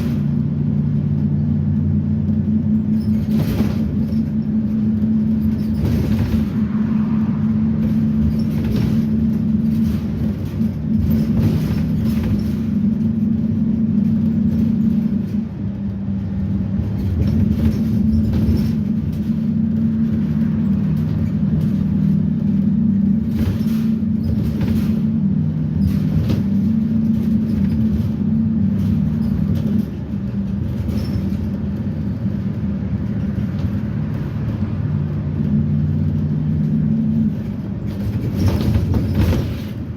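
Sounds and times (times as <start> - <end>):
bus engine drone: 0.0 - 39.9
knocks and rattles: 0.0 - 39.9
road noise: 0.0 - 39.9.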